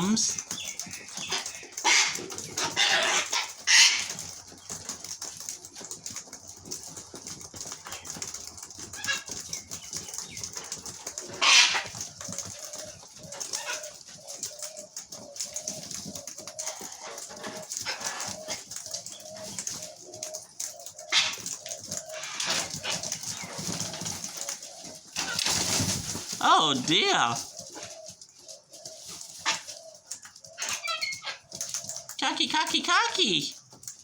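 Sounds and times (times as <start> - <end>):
wings flapping: 0.0 - 34.0.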